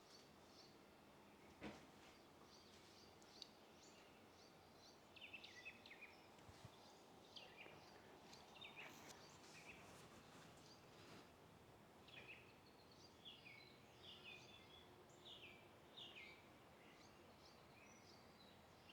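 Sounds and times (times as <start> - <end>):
songbirds chirping: 0.0 - 18.9.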